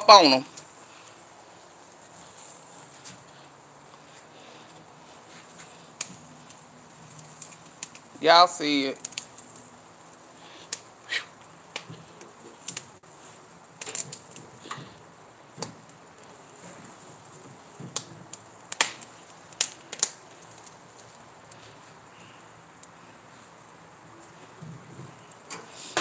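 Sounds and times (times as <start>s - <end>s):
fat popping and crackling in grill flames: 0.0s - 26.0s.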